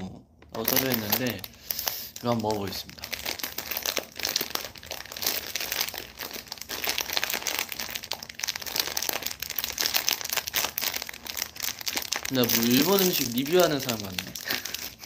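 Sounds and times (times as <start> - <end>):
plastic wrapper crinkling: 0.4 - 15.0.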